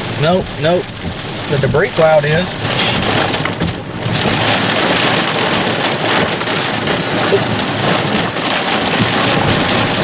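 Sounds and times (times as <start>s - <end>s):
rain pelting a vehicle: 0.0s - 10.0s.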